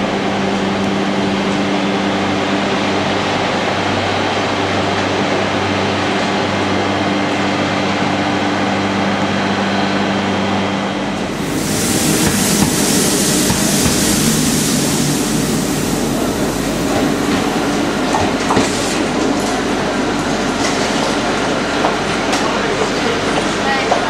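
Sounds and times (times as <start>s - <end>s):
electric locomotive passing: 0.0s - 24.0s.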